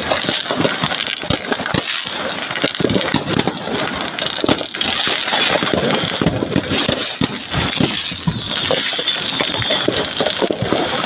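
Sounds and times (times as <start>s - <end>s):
fireworks crackling: 0.0s - 11.0s
steady hiss: 0.0s - 11.0s.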